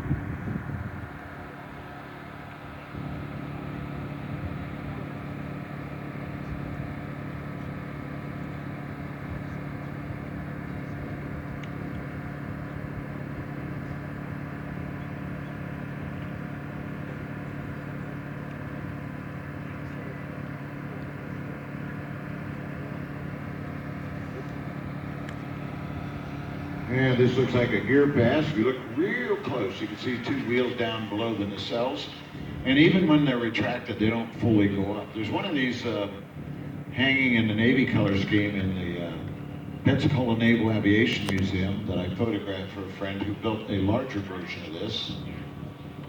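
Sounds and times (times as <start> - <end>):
model plane propellers droning: 0.0 - 46.0.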